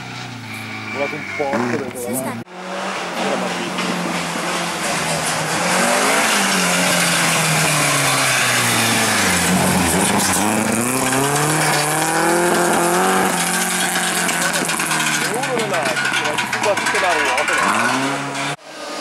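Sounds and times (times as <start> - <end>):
rally car engine passing by: 0.0 - 19.0.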